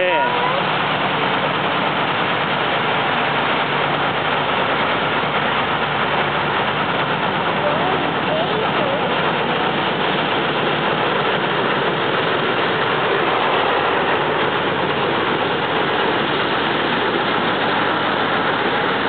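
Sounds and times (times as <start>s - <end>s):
diesel locomotive engine running: 0.0s - 19.0s
even rushing noise: 0.0s - 19.0s.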